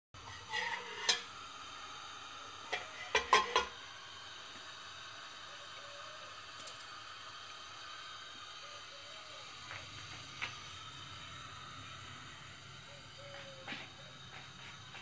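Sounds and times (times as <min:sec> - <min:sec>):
spices sizzling in oil: 0:00.2 - 0:15.0.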